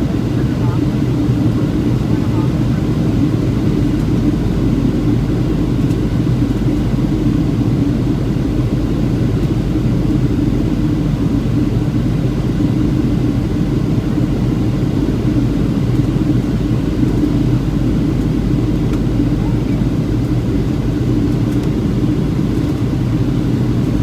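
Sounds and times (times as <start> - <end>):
airplane engines rumbling: 0.0 - 24.0
constant hum: 0.0 - 24.0.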